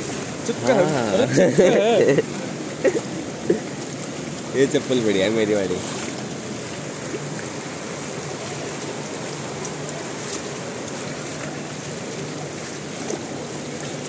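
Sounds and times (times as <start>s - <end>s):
floodwater running across road: 0.0s - 14.0s
rain rushing: 0.0s - 14.0s.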